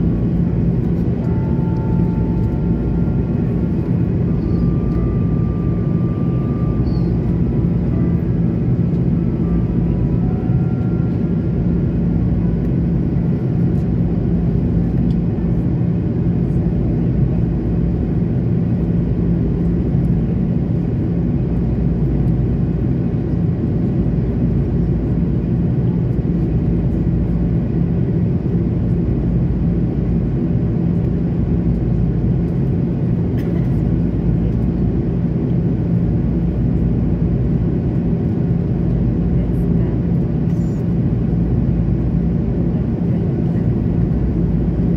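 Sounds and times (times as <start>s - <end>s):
jet engines droning: 0.0s - 44.9s
steady low hum: 0.0s - 44.9s.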